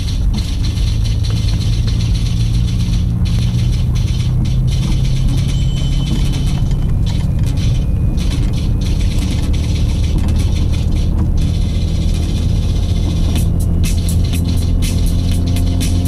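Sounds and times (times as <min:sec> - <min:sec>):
car engine and road rumble: 0:00.0 - 0:16.0
clicks and rattles: 0:00.0 - 0:16.0.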